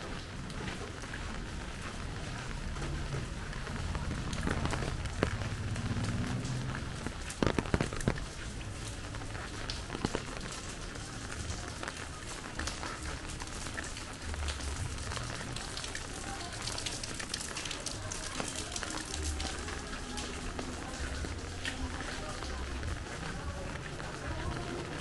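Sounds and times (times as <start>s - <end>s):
rain falling: 0.0s - 25.0s
raindrops ticking on surfaces: 0.0s - 25.0s.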